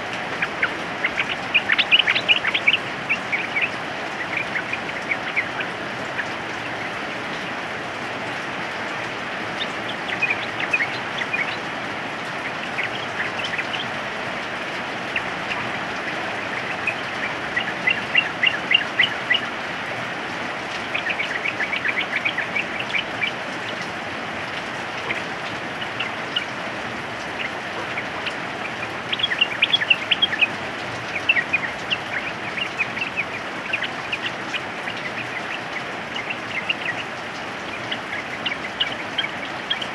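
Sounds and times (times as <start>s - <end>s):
bulbuls chattering calls: 0.0s - 39.9s
rain hiss: 0.0s - 39.9s.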